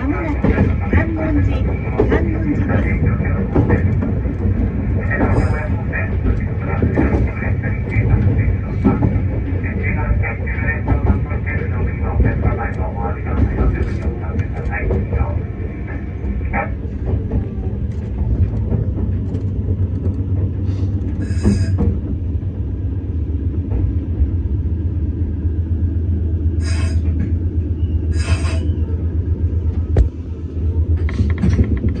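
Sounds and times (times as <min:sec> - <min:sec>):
electric train rumbling on rails: 0:00.0 - 0:32.0.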